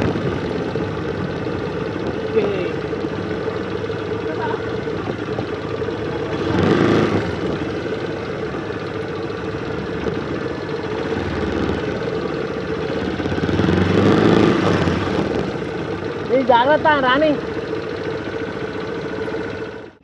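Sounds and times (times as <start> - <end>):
motorcycle engine at low speed: 0.0 - 20.0
road and wind noise: 0.0 - 20.0.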